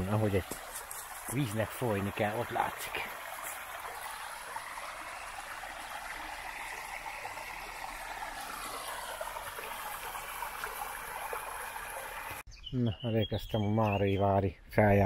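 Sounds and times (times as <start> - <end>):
stream babbling: 0.0 - 12.4.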